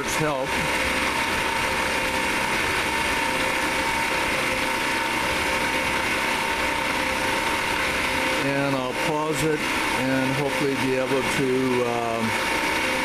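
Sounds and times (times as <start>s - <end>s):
milling machine cutting metal: 0.0s - 13.0s.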